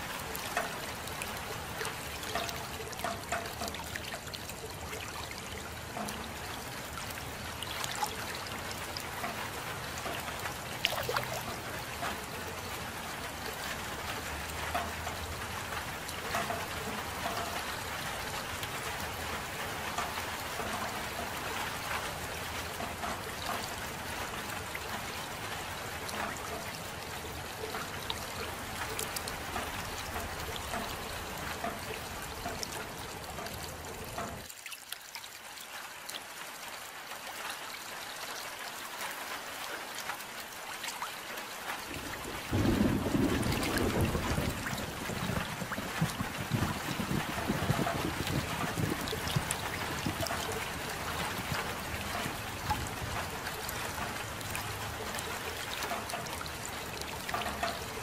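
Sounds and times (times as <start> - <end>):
soft rain: 0.0 - 58.0
water dripping and trickling: 0.0 - 58.0.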